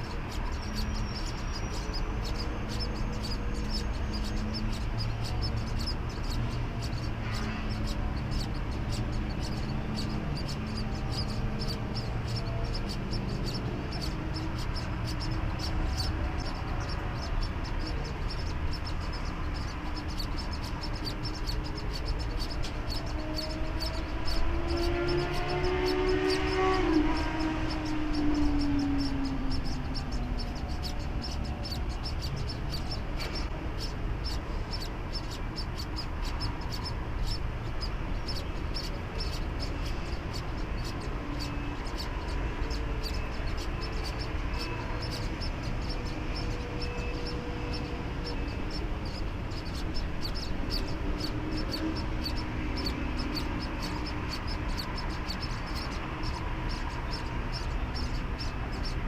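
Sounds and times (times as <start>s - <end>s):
faint calls: 0.0s - 59.0s.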